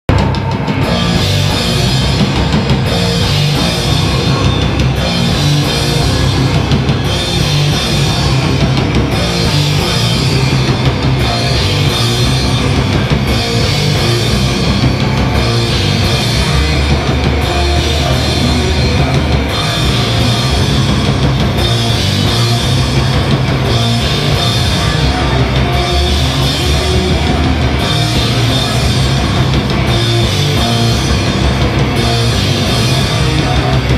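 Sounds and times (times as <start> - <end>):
live heavy rock band: 0.1 - 33.9.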